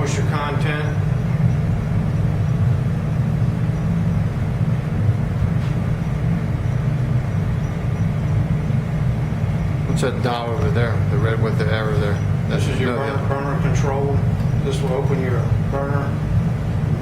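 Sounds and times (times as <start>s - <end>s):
machinery rumble and hum: 0.0s - 17.0s.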